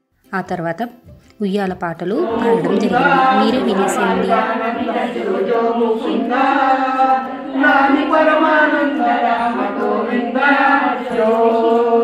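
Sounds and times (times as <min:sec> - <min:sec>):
women singing unaccompanied: 0:01.4 - 0:12.0.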